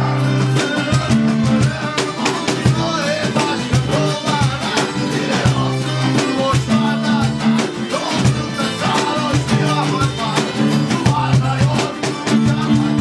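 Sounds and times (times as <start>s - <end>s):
guitar-led band music: 0.0s - 13.0s.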